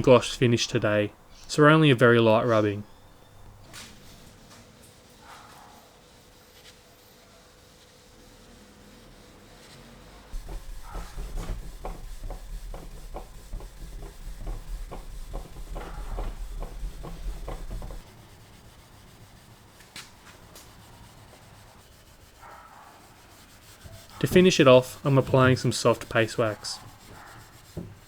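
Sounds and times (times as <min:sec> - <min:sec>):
steel wool rubbing on wood: 0:03.9 - 0:28.0.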